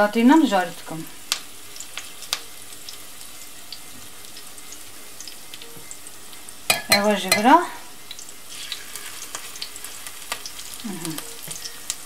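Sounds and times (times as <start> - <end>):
fritters sizzling in oil: 0.0 - 12.0.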